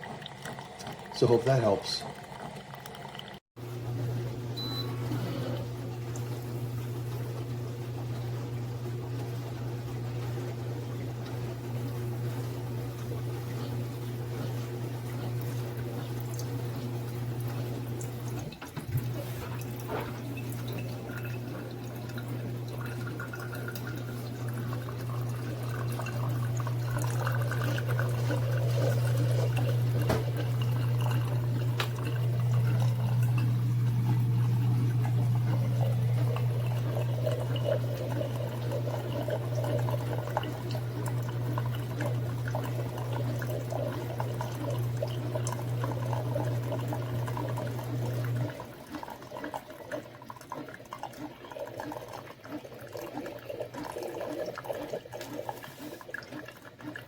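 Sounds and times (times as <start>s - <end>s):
coffee maker pump humming: 0.0s - 57.0s
coffee streaming into cup: 0.0s - 57.0s.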